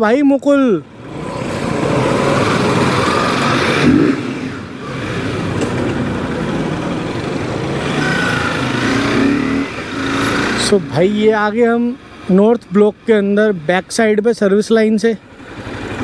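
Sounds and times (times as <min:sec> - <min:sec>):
road and wind noise: 0:00.0 - 0:16.0
motorcycle engine running: 0:00.8 - 0:16.0.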